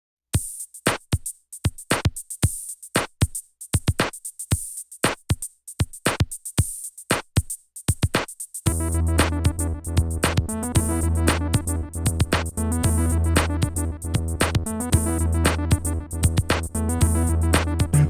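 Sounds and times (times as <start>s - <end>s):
drum machine beat: 0.4s - 18.0s.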